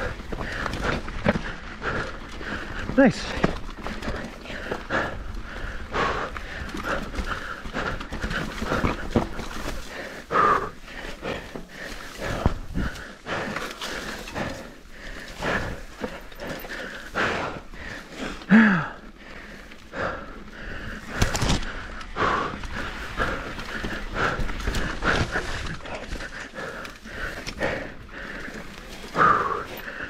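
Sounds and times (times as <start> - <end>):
bike rattling over bumps: 0.0 - 30.0
bike tyres on dirt: 0.0 - 30.0
rider breathing hard: 0.0 - 30.0.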